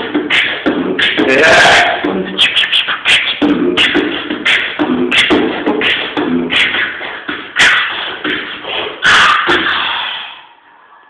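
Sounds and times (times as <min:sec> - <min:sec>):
man beatboxing: 0:00.0 - 0:10.6.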